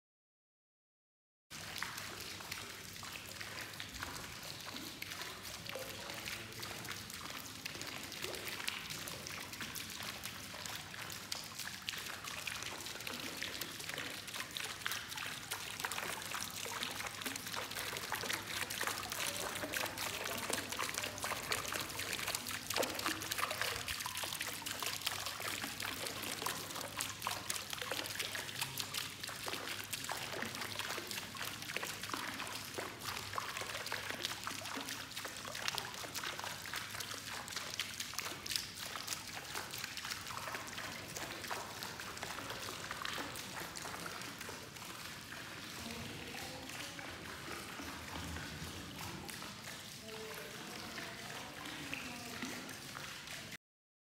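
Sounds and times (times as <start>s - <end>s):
water splashing and trickling: 1.5s - 53.6s.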